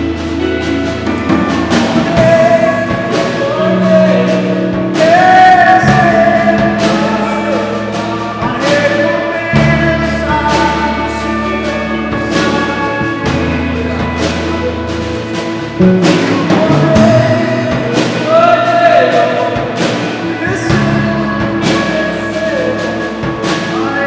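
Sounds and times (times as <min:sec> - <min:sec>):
band playing gospel music: 0:00.0 - 0:24.0
drum and cymbal strikes: 0:00.0 - 0:24.0
person singing long notes: 0:00.0 - 0:24.0.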